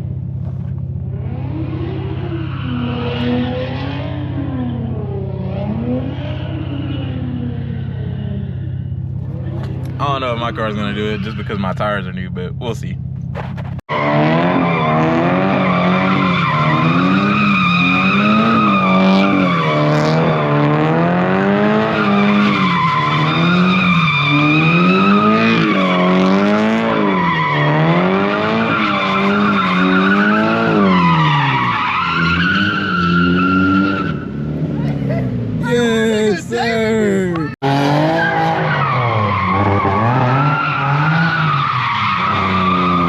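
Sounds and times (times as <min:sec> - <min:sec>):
car engine at high revs: 0:00.0 - 0:12.1, 0:12.8 - 0:43.0.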